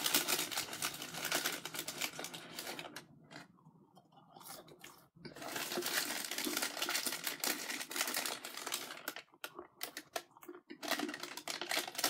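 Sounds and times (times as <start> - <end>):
chewing crispy food: 0.0 - 3.4, 4.2 - 12.0.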